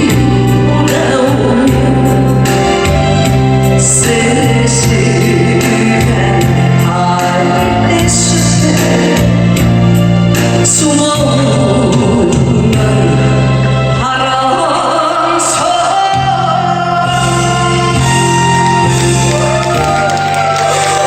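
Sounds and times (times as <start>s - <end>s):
person singing: 0.0s - 9.7s, 10.4s - 21.0s
ballad backing track: 0.0s - 21.0s.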